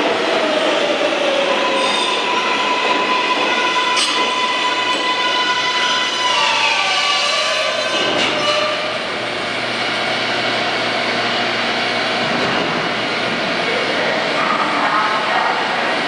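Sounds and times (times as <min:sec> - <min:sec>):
subway train running: 0:00.0 - 0:16.0.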